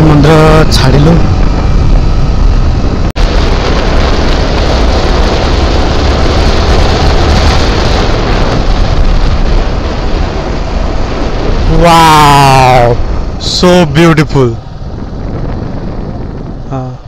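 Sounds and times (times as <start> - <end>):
motorcycle engine: 0.0 - 17.0
wind rushing over microphone: 0.0 - 17.0.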